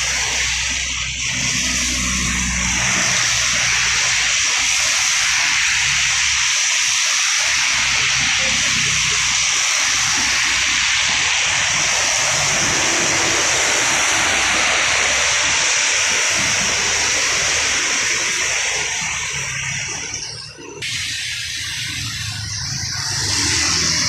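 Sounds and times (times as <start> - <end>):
rain hiss: 0.0 - 24.0
vehicles passing on wet road: 0.0 - 24.0.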